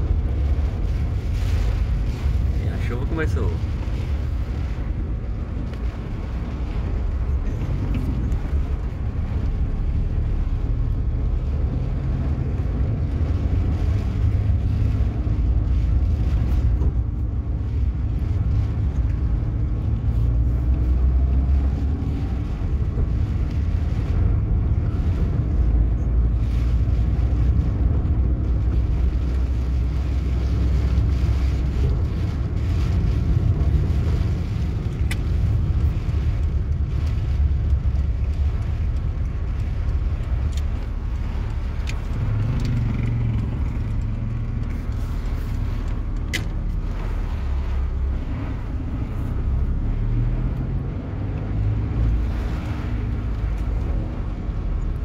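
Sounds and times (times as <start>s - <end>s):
car engine rumble: 0.0s - 55.0s
tyres on wet road: 0.0s - 55.0s.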